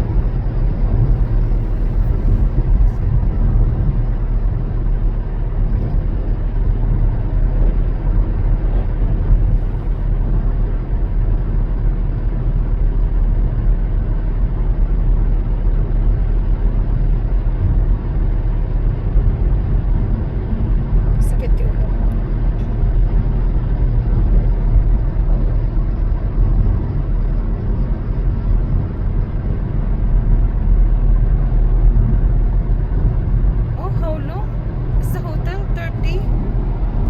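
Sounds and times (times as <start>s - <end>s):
car road noise rumble: 0.0s - 37.0s.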